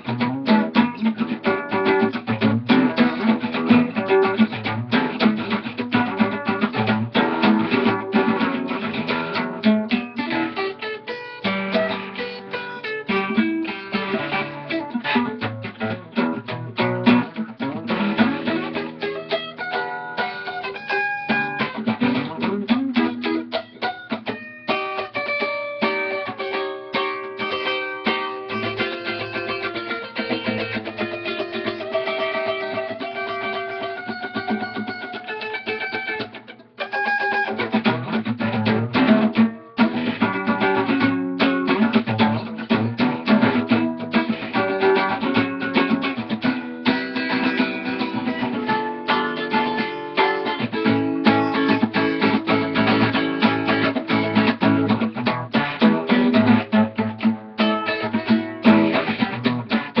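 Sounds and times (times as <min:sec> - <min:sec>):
acoustic guitar picking: 0:00.0 - 1:00.0.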